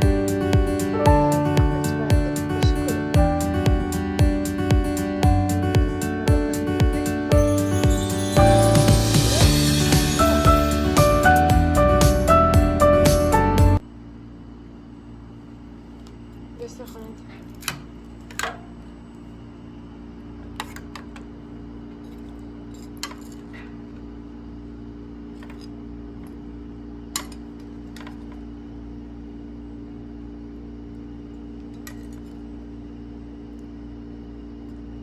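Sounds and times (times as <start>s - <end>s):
motor hum: 0.0s - 35.0s.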